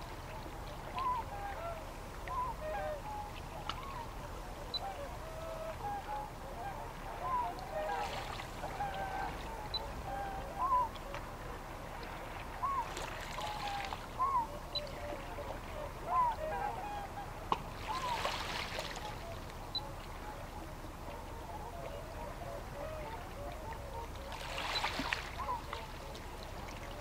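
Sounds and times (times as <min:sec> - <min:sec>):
water lapping: 0:00.0 - 0:27.0
waterfowl honking: 0:00.7 - 0:11.6, 0:12.4 - 0:27.0.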